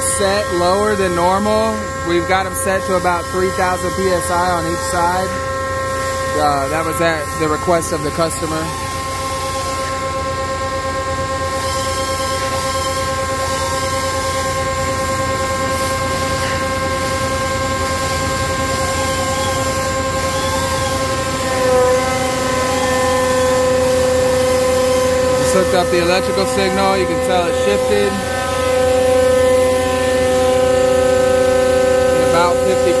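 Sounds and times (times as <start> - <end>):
hydraulic pump whine: 0.0 - 33.0.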